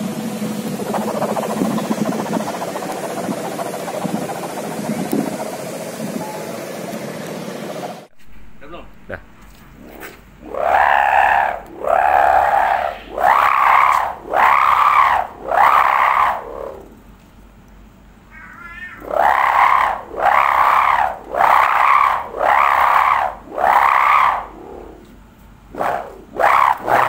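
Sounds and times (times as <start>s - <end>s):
kite hummer wailing tones: 0.0s - 8.1s, 9.7s - 17.1s, 18.3s - 27.0s.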